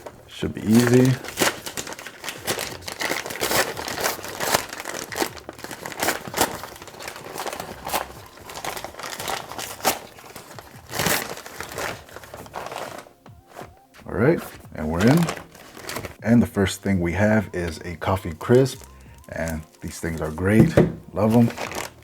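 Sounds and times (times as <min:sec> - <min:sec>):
foil paper bag crinkling: 0:00.0 - 0:16.3, 0:17.0 - 0:22.0.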